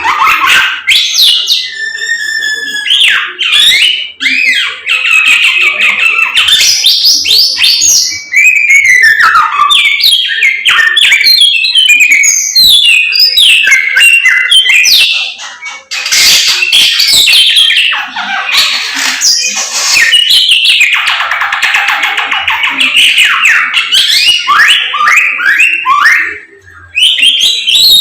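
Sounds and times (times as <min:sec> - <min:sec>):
songbird singing whistled notes: 0:00.0 - 0:18.0, 0:22.7 - 0:28.0.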